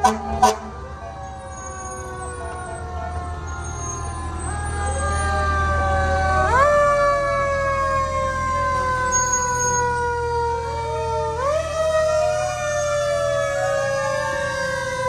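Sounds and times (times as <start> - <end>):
fire engine siren: 0.0 - 15.0
truck engine drone: 0.0 - 15.0.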